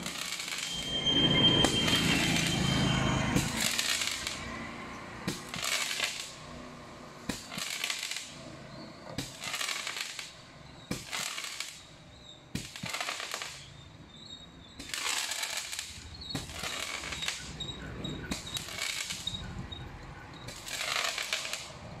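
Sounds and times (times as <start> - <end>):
firework crackling: 0.0 - 6.6, 7.2 - 13.8, 14.8 - 17.6, 18.2 - 19.9, 20.5 - 22.0.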